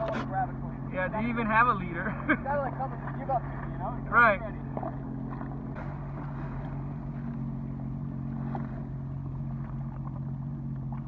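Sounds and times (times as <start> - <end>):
jet ski engine idling: 0.0 - 11.0.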